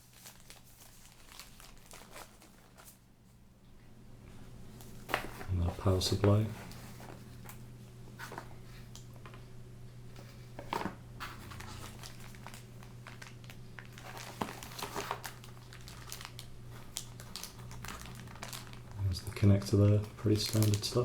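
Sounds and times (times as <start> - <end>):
packaging crinkling and rustling: 0.0 - 3.1, 4.7 - 9.5, 10.1 - 21.0
steady low hum: 2.6 - 21.0.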